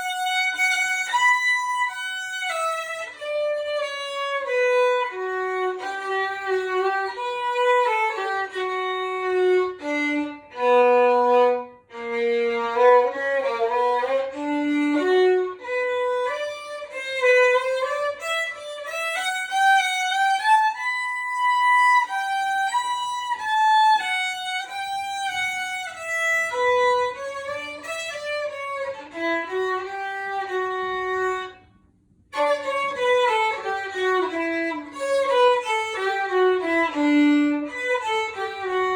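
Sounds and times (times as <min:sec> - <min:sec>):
solo violin melody: 0:00.0 - 0:38.9.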